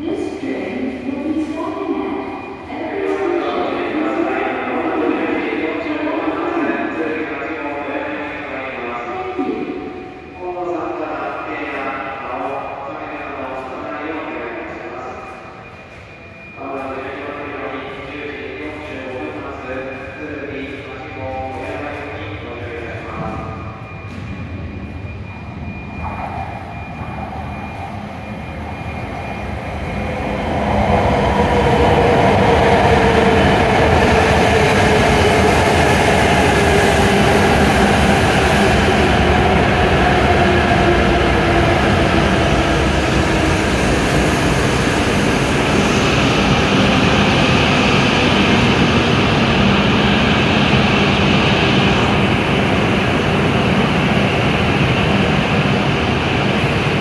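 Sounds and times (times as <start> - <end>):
train running noise: 0.0 - 57.0.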